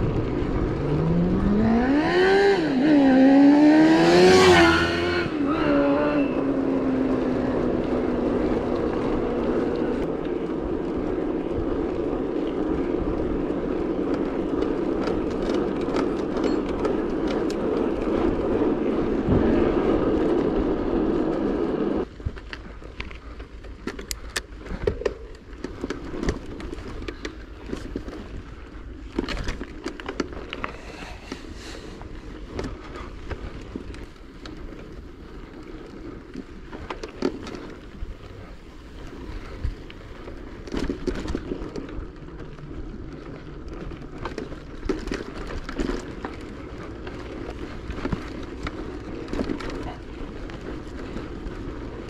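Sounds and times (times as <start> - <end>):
bicycle tyres rumbling: 0.0 - 52.0.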